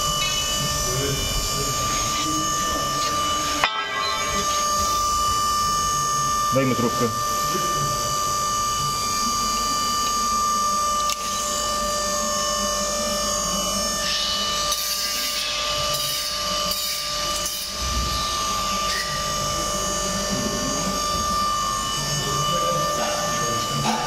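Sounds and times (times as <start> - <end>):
workshop machinery humming: 0.0 - 24.0.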